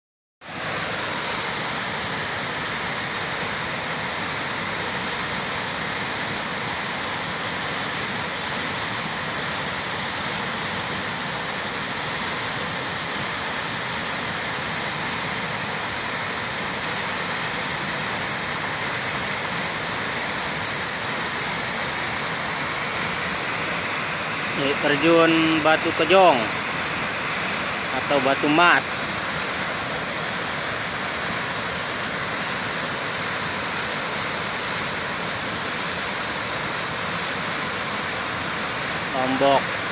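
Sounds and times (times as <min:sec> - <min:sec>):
waterfall rushing: 0:00.4 - 0:39.9.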